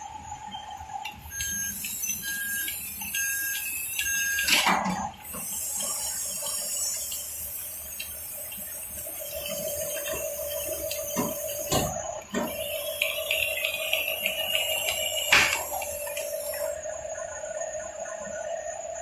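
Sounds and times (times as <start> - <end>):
motor whine: 0.6 - 18.6
toy bulldozer drive hissing: 1.2 - 16.8.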